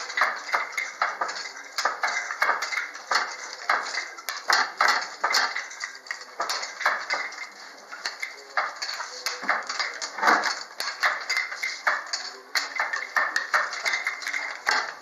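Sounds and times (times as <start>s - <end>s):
handloom clacking: 0.0s - 15.0s.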